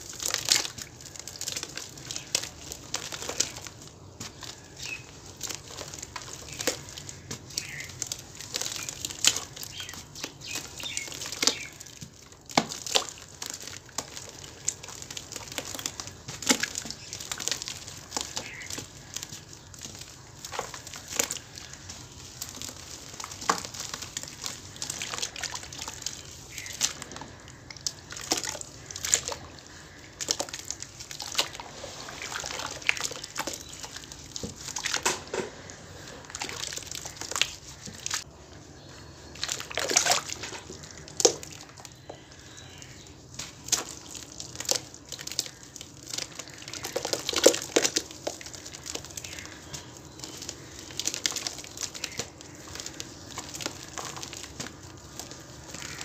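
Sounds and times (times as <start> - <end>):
hands kneading wet cement: 0.0 - 56.0
water splashing and sloshing: 0.0 - 56.0.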